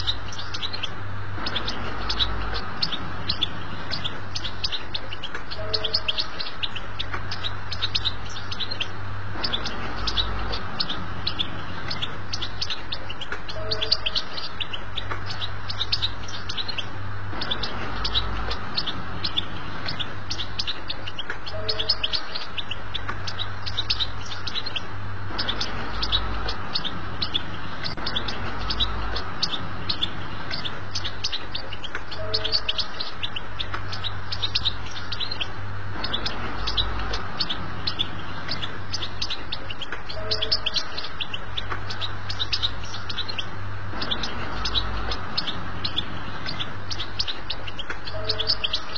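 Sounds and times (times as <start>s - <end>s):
goldfinch twittering song: 0.0s - 48.9s
low hum: 0.0s - 48.9s.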